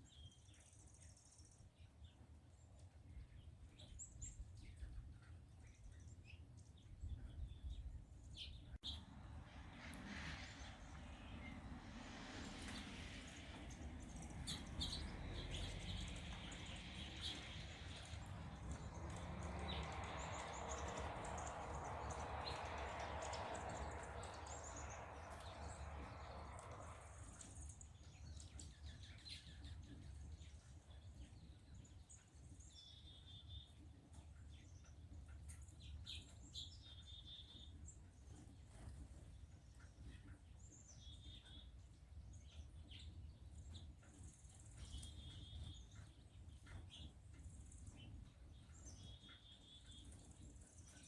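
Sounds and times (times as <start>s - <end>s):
songbirds chirping: 0.0s - 51.0s.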